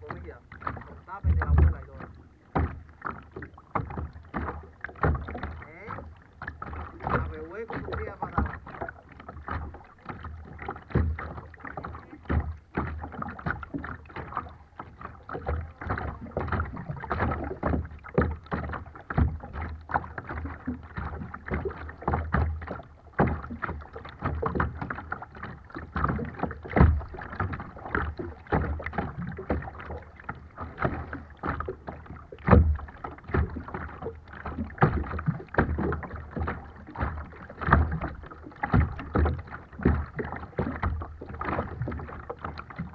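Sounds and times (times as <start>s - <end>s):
small waves lapping against hull: 0.0s - 42.9s.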